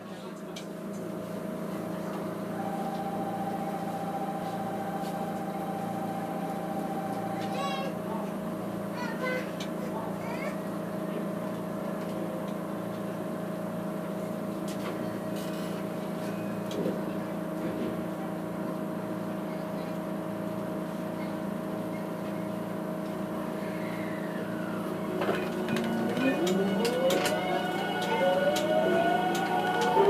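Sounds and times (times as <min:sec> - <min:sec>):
electric train hum: 0:00.7 - 0:30.0.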